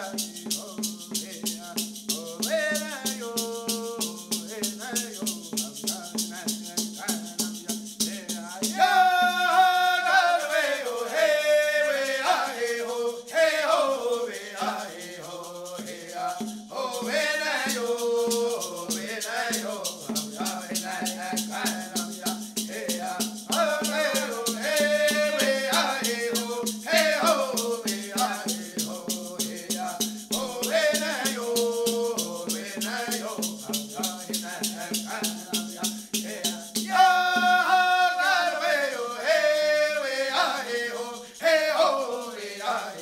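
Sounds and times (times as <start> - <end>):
rattles shaking: 0.0 - 38.0, 39.0 - 42.7
voices singing: 0.0 - 43.0.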